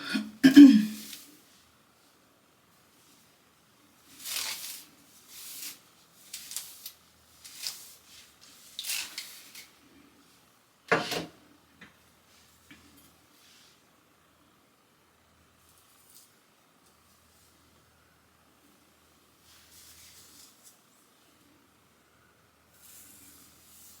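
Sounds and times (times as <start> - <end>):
rustling and handling noises: 0.6 - 13.9, 15.5 - 17.9, 18.5 - 21.7, 22.7 - 24.0.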